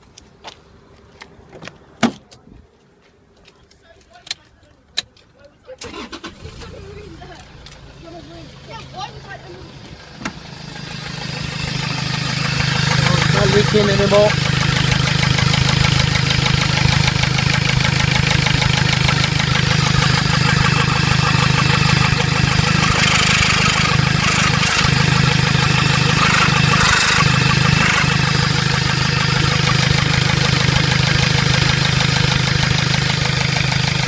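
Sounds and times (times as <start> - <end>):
diesel engine idling: 5.8 - 34.0.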